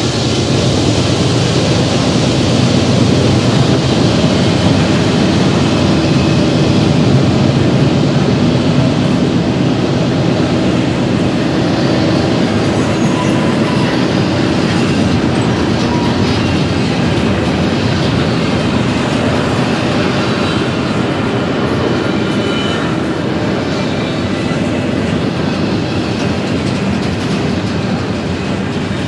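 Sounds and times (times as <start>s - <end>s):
clickety-clack over rail joints: 0.0s - 29.0s
train wheels rumbling on rail: 0.0s - 29.0s.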